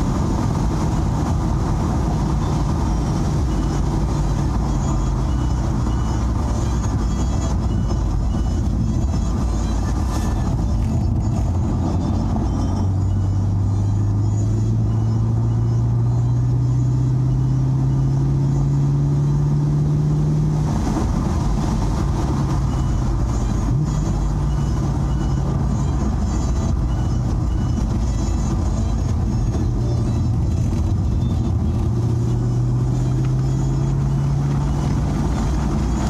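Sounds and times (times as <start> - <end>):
car engine accelerating: 0.0 - 36.0
road and tyre noise: 0.0 - 36.0.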